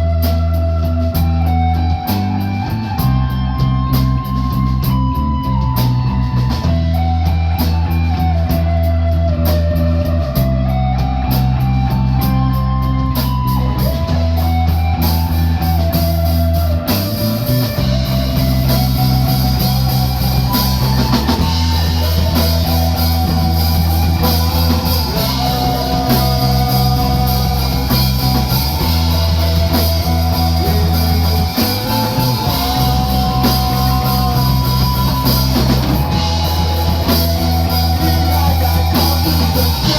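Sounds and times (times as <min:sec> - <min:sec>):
bass notes: 0:00.0 - 0:39.9
drums and cymbals: 0:00.0 - 0:39.9
electric guitar melody: 0:00.0 - 0:39.9
rock band playing live: 0:00.0 - 0:39.9.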